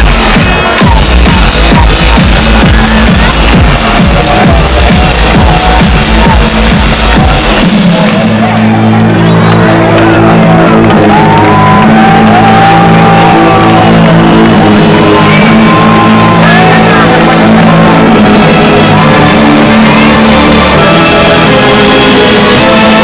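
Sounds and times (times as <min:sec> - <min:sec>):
crowd shouting and whooping: 0:00.0 - 0:23.0
loud live music: 0:00.0 - 0:23.0.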